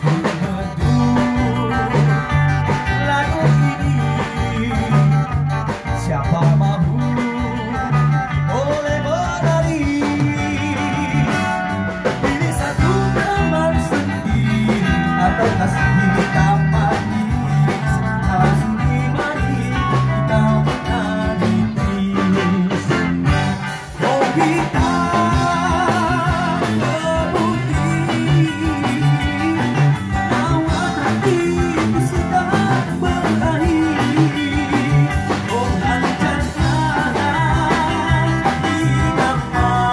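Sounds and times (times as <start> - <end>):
live band music: 0.0 - 39.9
person singing into a microphone: 0.0 - 39.9.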